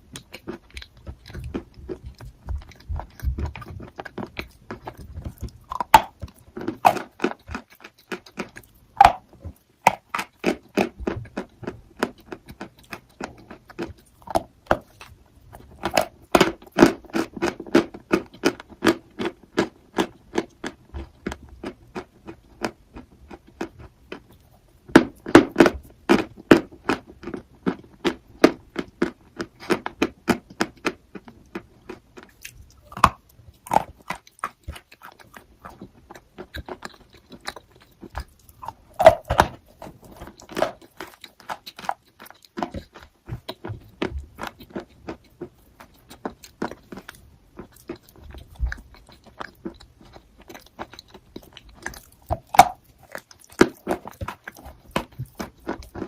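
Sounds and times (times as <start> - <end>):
crunchy chewing of chalk: 0.0 - 56.0.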